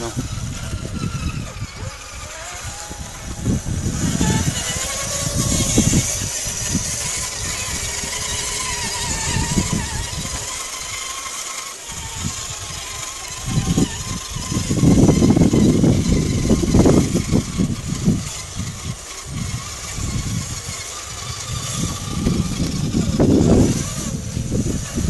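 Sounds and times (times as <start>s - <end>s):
electric motor and gears whining: 0.0s - 25.0s.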